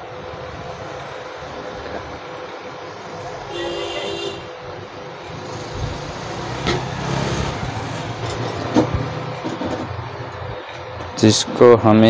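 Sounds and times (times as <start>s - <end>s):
steady rumbling noise: 0.0s - 12.0s.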